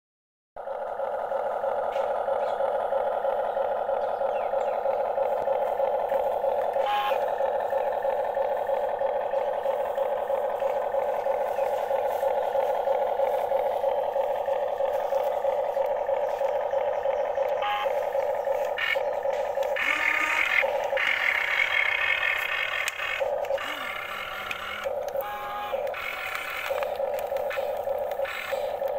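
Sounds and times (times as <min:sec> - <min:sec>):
toy excavator whirring: 0:00.6 - 0:28.9.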